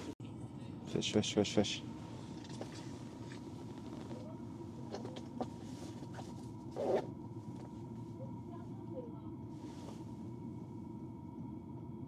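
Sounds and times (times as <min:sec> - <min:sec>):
faint constant tone: 0:00.0 - 0:12.0
steady low rumble: 0:00.0 - 0:12.0.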